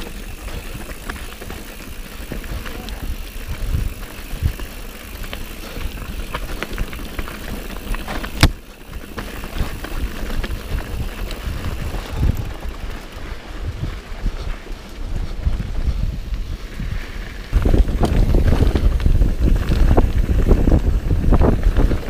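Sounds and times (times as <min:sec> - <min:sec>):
wind on microphone: 0:00.0 - 0:07.3, 0:09.4 - 0:22.0
bike rattling and clicking: 0:00.0 - 0:22.0
bike tyres rumbling: 0:00.0 - 0:22.0.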